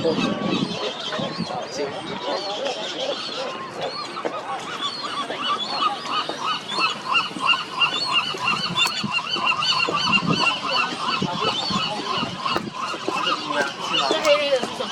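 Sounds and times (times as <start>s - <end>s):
gull colony calling: 0.0s - 14.9s.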